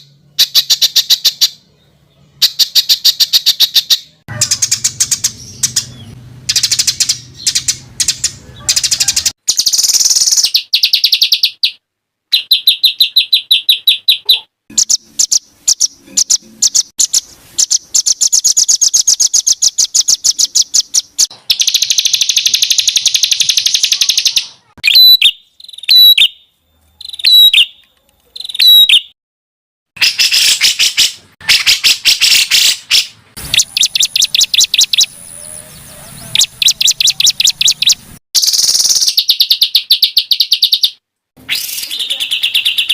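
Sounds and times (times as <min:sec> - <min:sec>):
songbird harsh trills: 0:02.3 - 0:27.8, 0:30.0 - 0:42.9.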